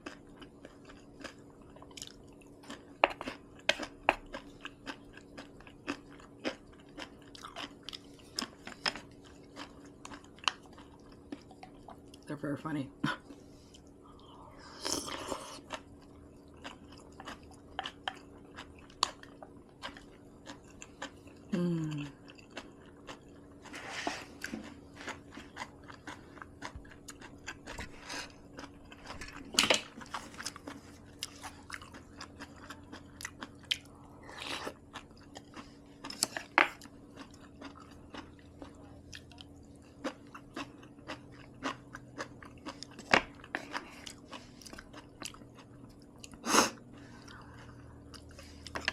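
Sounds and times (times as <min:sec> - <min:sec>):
chewing and crunching food: 0:00.0 - 0:48.9.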